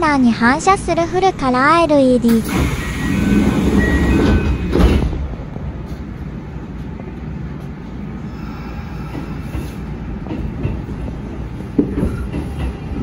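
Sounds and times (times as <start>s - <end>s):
train wheels rumbling: 2.2s - 13.0s.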